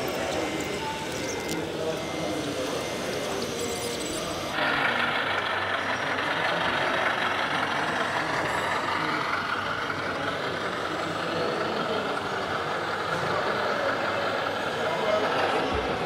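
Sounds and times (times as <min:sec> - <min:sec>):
simulated truck engine: 0:00.0 - 0:16.0.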